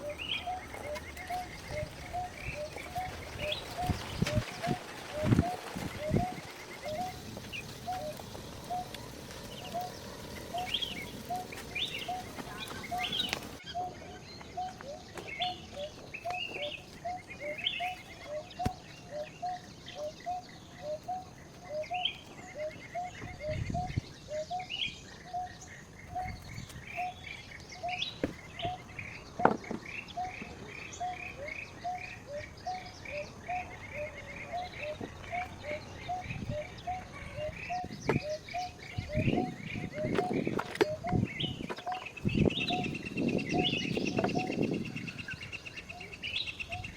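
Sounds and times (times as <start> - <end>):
higher bird chirps and trills: 0.0 - 46.9.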